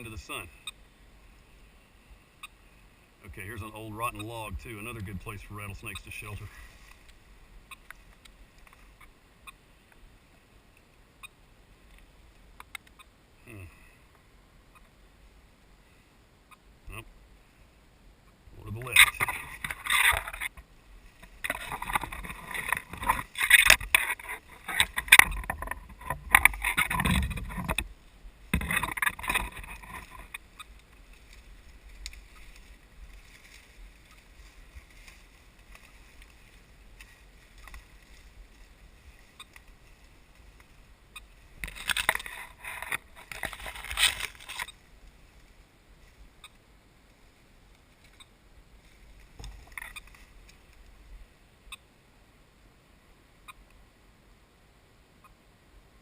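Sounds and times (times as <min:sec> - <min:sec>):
leaves and branches rustling: 0:00.0 - 0:55.0.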